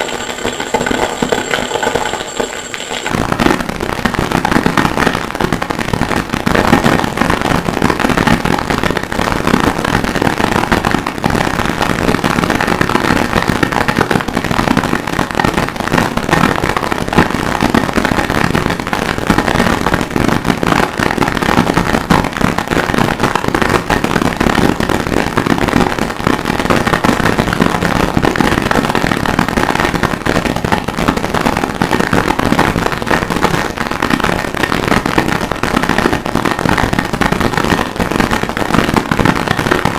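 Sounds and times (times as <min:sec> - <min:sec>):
distorted noise music crackle: 0:00.0 - 0:39.9.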